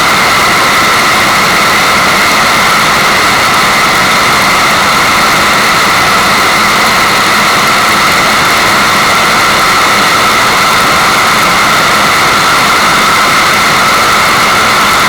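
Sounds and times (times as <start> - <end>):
water rushing hiss: 0.1 - 15.0.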